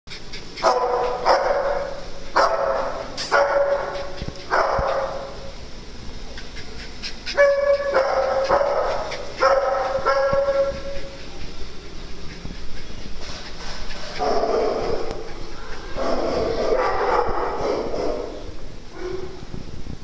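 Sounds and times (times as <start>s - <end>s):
dogs barking: 0.1s - 5.5s, 6.3s - 19.4s.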